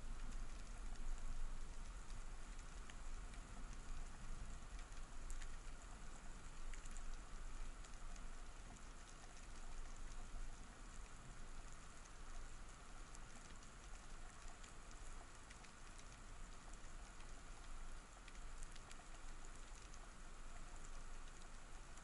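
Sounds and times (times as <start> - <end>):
faint underwater clicks: 0.0 - 22.0
low rumble of moving water: 0.0 - 22.0.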